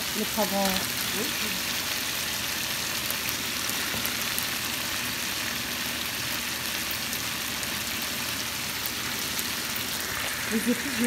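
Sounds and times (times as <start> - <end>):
chicken sizzling in a frying pan: 0.0 - 11.0.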